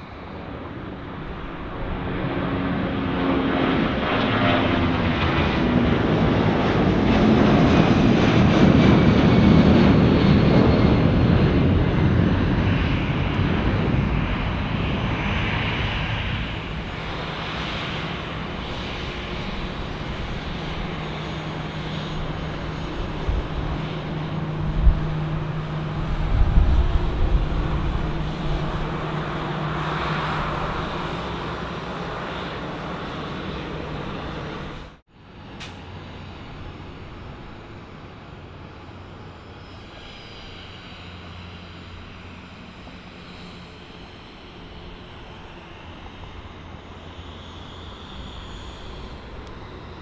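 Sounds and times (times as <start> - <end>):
jet airliner taxiing: 0.0 - 50.0
jet engines on approach: 0.0 - 50.0
low jet rumbles: 0.0 - 50.0.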